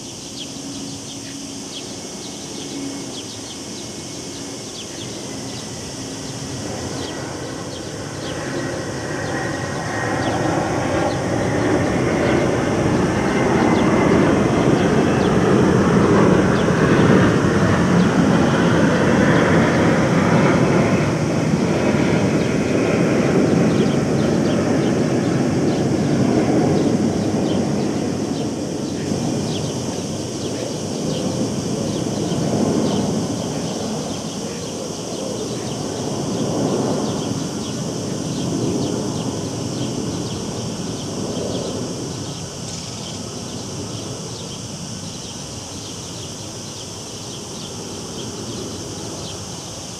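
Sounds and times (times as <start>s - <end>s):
cicada chorus: 0.0s - 49.9s.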